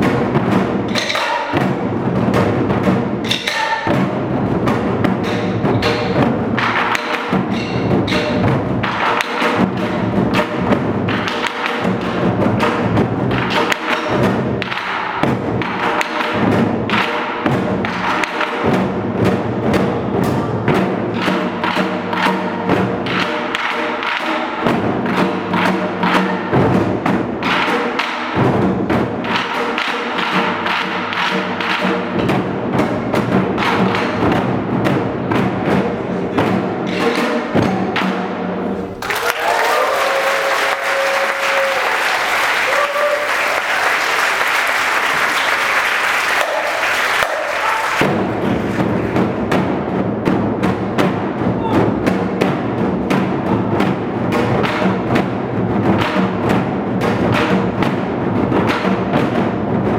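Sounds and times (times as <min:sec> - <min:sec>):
barrel drums played fast: 0:00.0 - 0:59.9.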